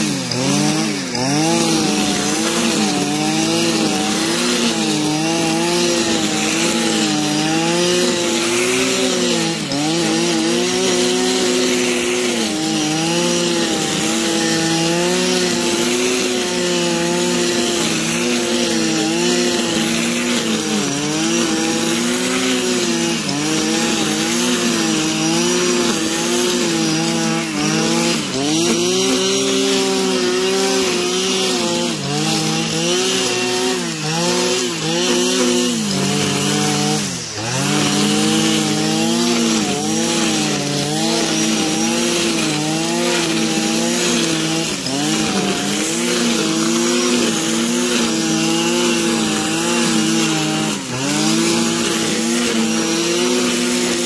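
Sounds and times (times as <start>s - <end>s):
brush cutter engine at high throttle: 0.0s - 54.0s.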